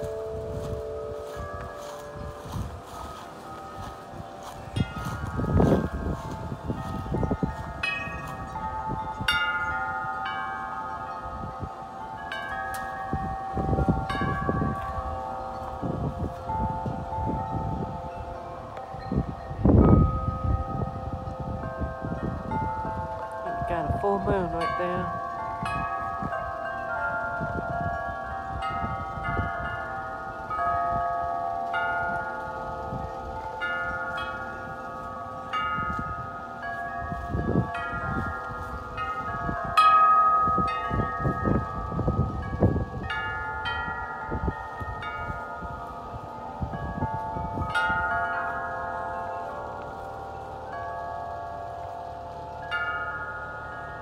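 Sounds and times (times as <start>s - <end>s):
wind rumble on microphone: 0.0s - 52.8s
wind chimes ringing: 0.0s - 54.0s.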